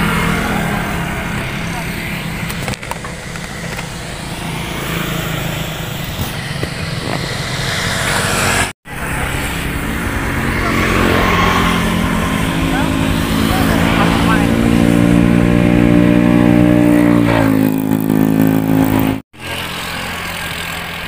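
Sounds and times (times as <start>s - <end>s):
motor scooter engine running: 0.0s - 21.0s.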